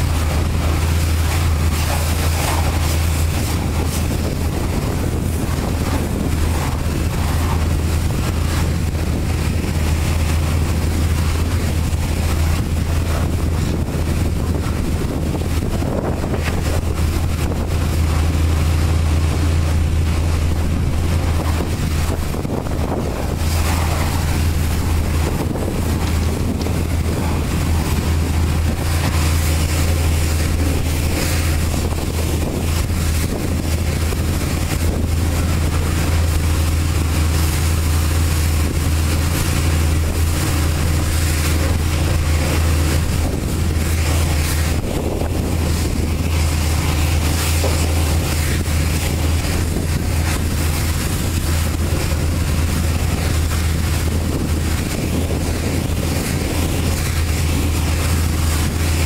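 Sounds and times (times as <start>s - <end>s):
low engine hum: 0.0s - 59.0s
pressure washer water jet hissing: 0.0s - 59.0s.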